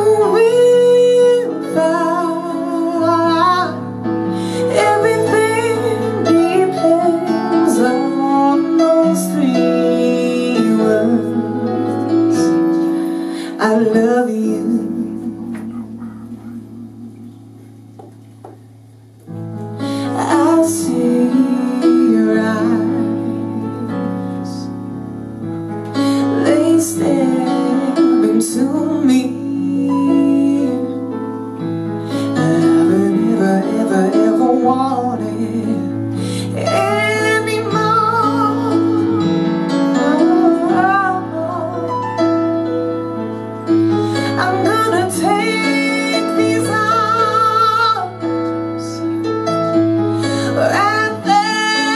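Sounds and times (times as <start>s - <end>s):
woman singing into a microphone: 0.0s - 17.7s, 19.8s - 24.8s, 25.9s - 42.8s, 43.6s - 51.9s.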